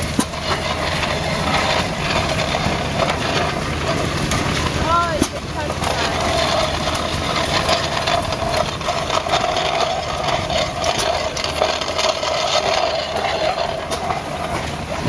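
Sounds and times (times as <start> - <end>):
corn grinder rattling and clicking: 0.0 - 15.0
stationary gas engine running: 0.0 - 15.0.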